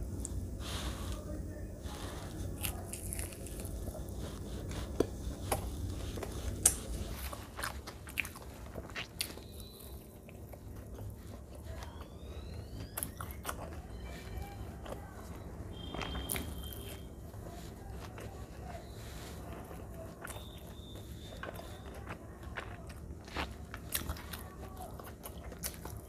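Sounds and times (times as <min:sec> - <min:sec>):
crunchy fried snack chewing: 0:01.9 - 0:26.0.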